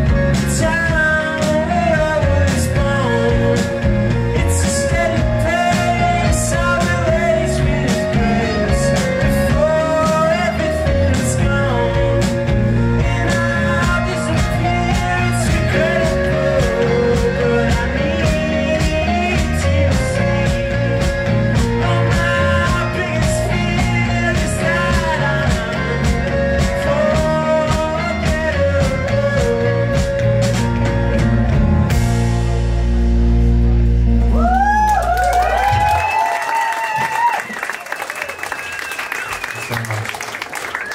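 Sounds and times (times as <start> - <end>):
steady drumbeat: 0.0 - 33.6
live rock band playing: 0.0 - 36.4.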